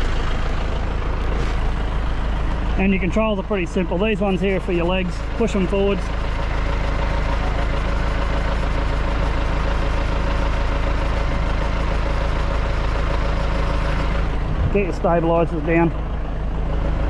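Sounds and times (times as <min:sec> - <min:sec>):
tractor engine running steadily: 0:00.0 - 0:17.0.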